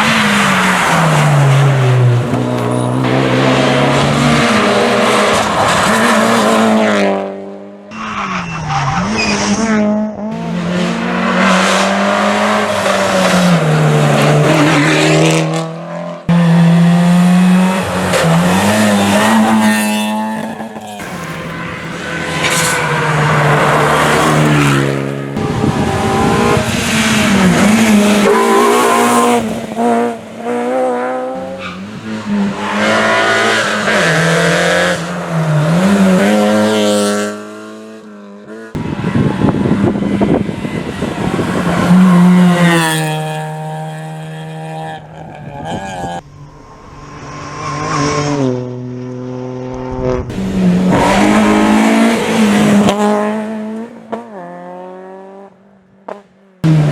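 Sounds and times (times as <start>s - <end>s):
rally car engines revving: 0.0s - 56.9s.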